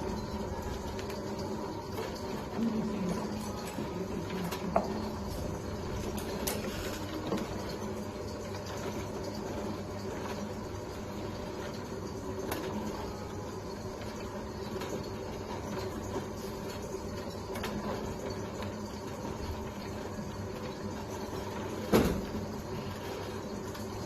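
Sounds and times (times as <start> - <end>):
machine motor hum: 0.0 - 24.0.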